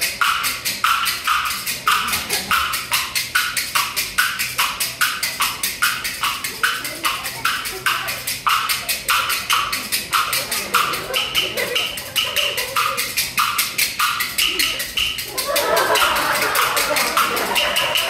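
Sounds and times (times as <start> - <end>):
bamboo clappers clacking: 0.0 - 18.0.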